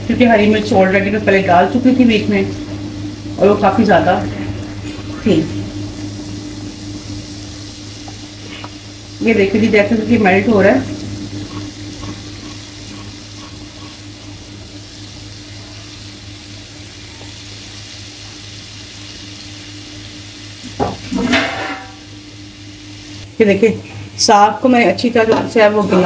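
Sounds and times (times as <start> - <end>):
butter sizzling in a frying pan: 0.0 - 23.6.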